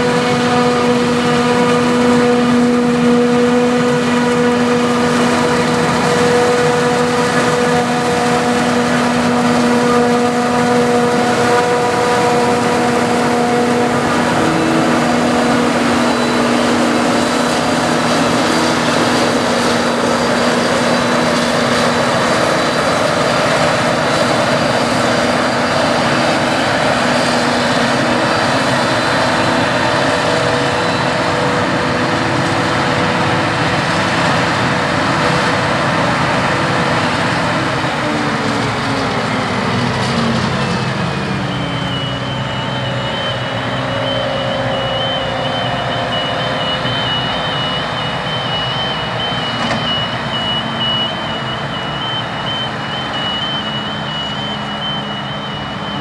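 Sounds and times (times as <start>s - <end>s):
reversing alarm beeping: 0.0s - 38.0s, 39.5s - 56.0s
harvester and tractor engines droning: 0.0s - 56.0s.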